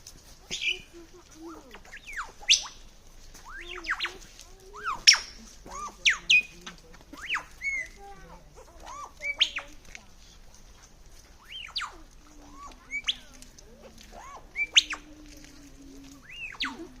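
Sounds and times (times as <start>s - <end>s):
lyrebird whistled song: 0.4s - 8.0s, 8.8s - 9.9s, 11.3s - 15.5s, 16.1s - 17.0s.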